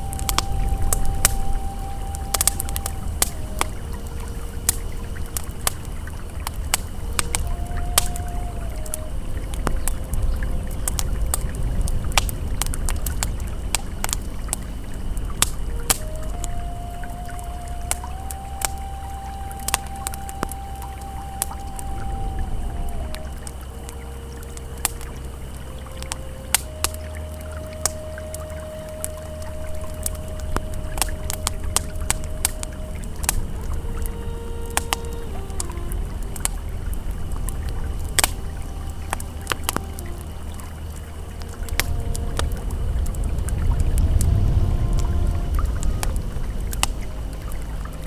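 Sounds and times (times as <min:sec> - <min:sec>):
campfire crackling and popping: 0:00.0 - 0:48.0
river flowing: 0:00.0 - 0:48.0
soft held ambient tones: 0:00.0 - 0:48.0.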